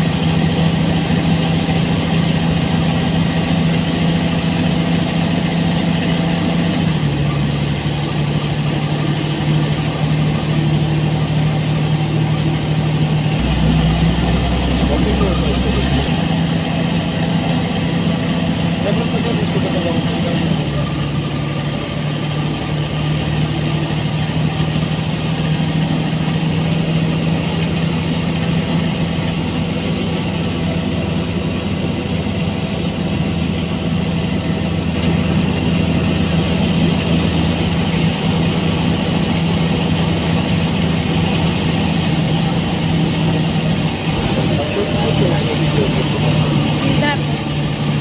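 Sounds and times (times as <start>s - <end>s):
bus engine humming: 0.0s - 48.0s.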